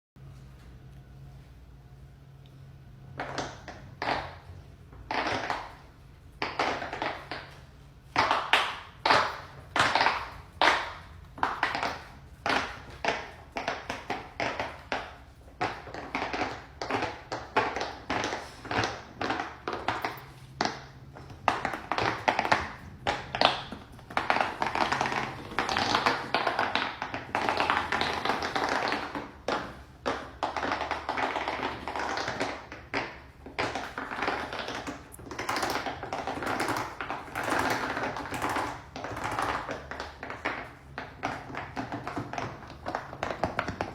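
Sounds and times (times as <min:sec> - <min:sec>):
fidget toys tapping and popping: 0:03.2 - 0:43.9.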